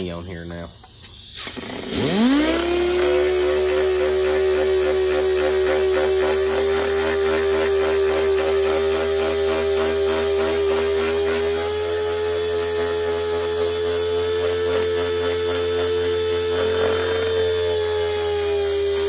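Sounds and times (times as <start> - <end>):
sander whining: 0.8 - 19.0.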